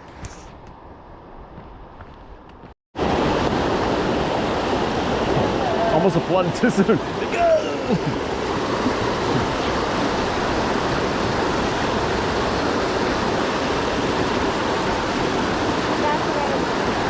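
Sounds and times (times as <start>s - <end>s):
stream water rushing over rocks: 3.0s - 17.0s.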